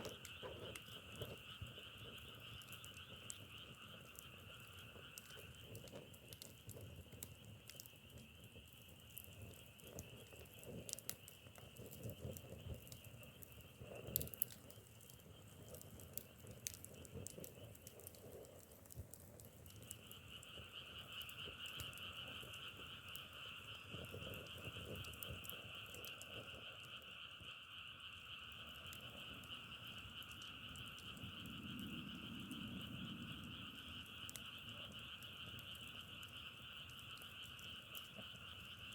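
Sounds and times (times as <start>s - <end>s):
frogs trilling: 0.0s - 38.9s
small crackles and pops: 0.0s - 38.9s.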